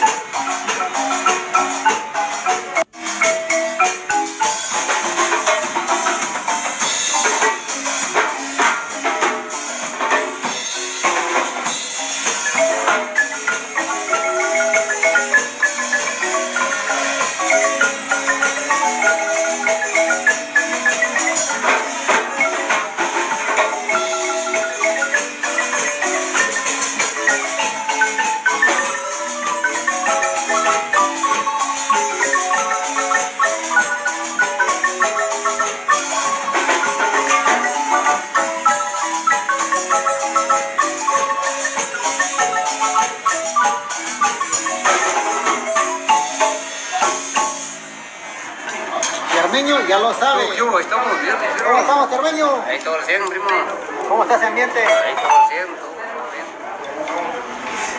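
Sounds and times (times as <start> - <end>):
marimba playing lively tune: 0.0 - 55.8.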